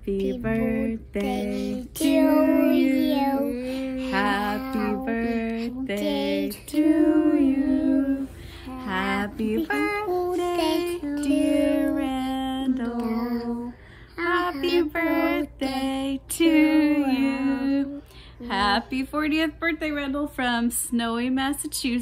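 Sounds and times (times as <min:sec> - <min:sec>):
woman and children singing: 0:00.0 - 0:19.2.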